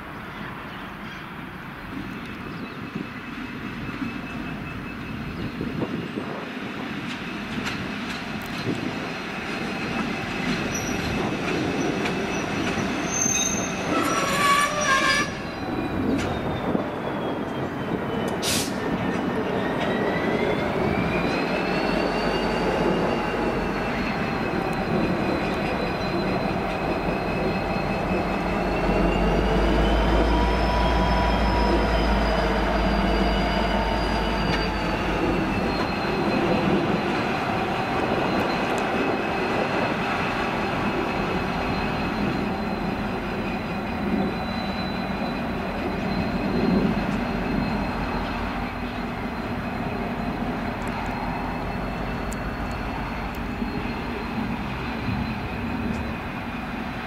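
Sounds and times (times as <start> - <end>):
diesel locomotive engine rumble: 0.0 - 57.0
train wheel rumble: 0.0 - 57.0
wavering wheel squeal: 9.6 - 57.0.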